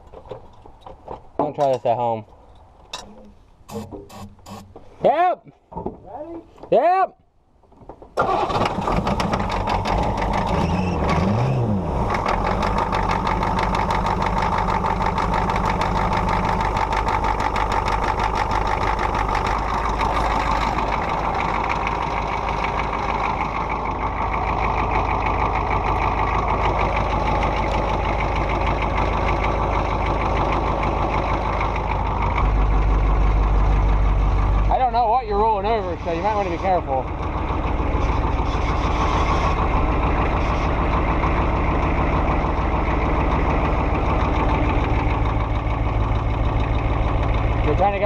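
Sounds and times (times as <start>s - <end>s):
vehicle engine clattering: 0.0s - 6.0s, 7.6s - 48.0s.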